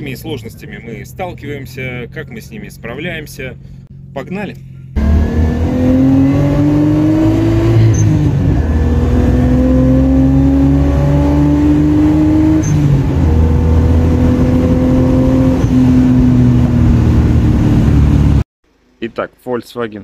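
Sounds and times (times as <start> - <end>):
car engine accelerating: 0.0 - 18.4.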